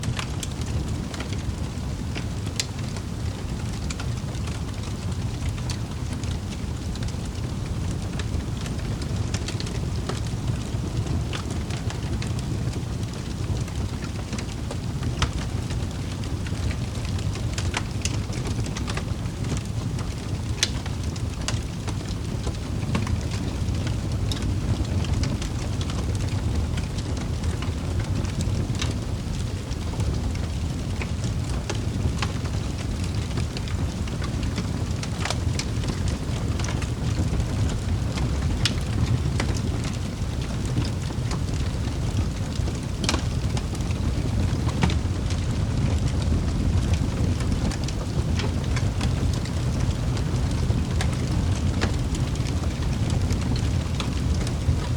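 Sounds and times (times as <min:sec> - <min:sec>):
fire crackling and popping: 0:00.0 - 0:54.9
wood fire flames rumbling: 0:00.0 - 0:54.9.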